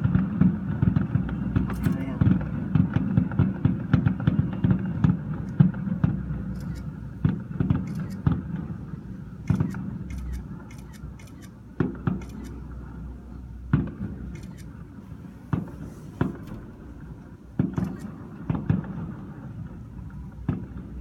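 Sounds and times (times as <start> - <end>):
distant fireworks bangs: 0.0 - 21.0.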